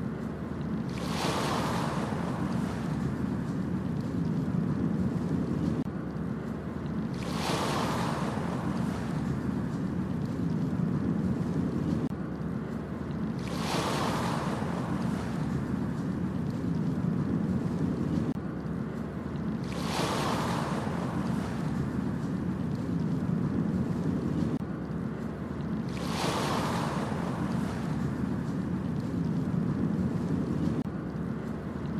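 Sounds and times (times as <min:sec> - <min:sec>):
waves breaking on beach: 0:00.0 - 0:05.9, 0:06.5 - 0:31.9
low rumble of surf: 0:00.0 - 0:31.9.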